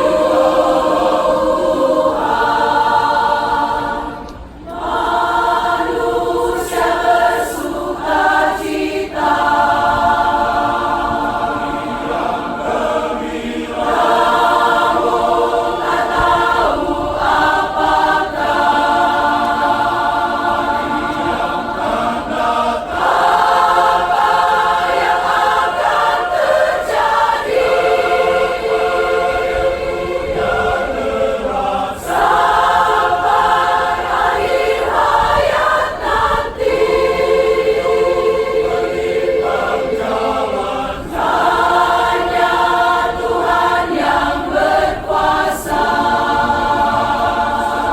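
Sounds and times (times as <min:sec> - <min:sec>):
church choir singing a hymn: 0:00.0 - 0:47.9.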